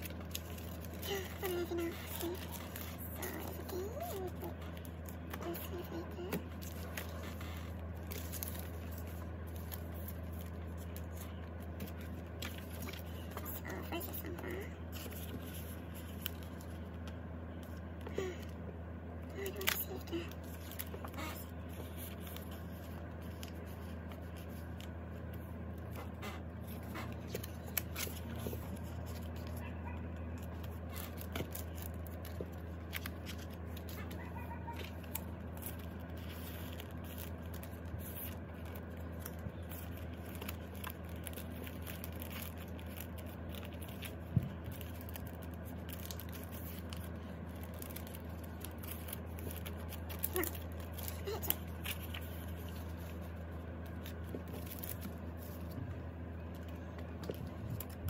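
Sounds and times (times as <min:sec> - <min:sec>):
plastic sleeves crinkling: 0:00.0 - 0:18.5, 0:19.4 - 0:58.0
steady low hum: 0:00.0 - 0:58.0.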